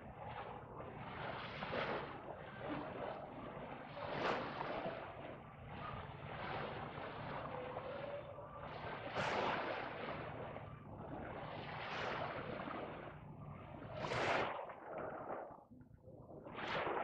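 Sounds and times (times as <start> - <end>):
small waves washing onto sand: 0.2 - 15.5.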